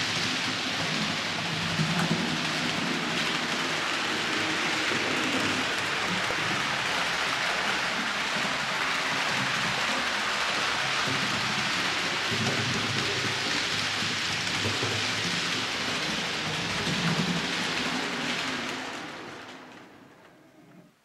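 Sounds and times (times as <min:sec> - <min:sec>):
model train wheels and motor: 0:00.0 - 0:21.0.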